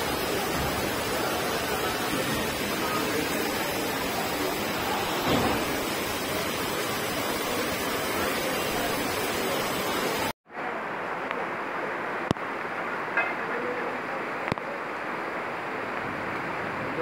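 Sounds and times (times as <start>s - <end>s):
floodwater rushing: 0.0s - 17.0s
heavy rain: 0.0s - 17.0s.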